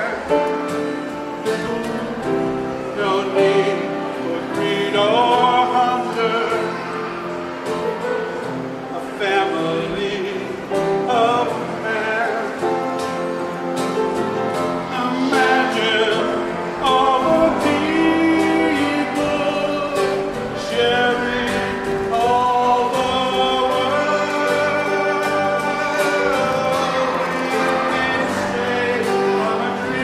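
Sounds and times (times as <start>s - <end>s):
group of singers: 2.3s - 30.0s.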